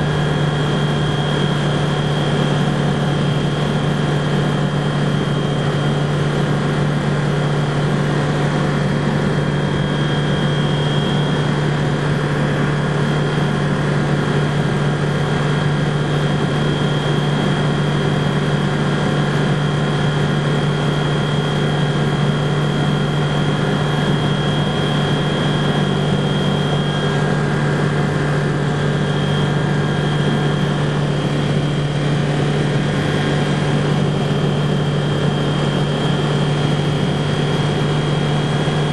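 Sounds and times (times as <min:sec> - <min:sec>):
aircraft engine drone: 0:00.0 - 0:38.9
thin high whine: 0:00.0 - 0:38.9.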